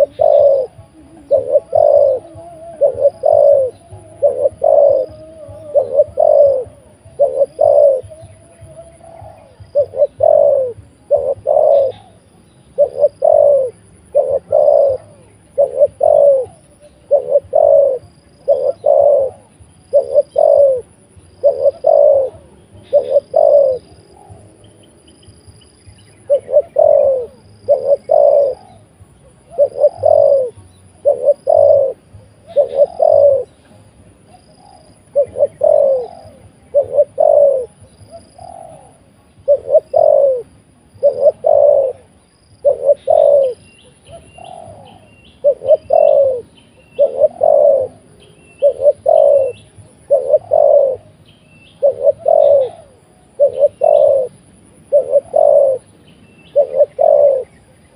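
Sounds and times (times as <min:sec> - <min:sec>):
dove cooing: 0:00.0 - 0:57.9
small birds chirping: 0:00.0 - 0:57.9.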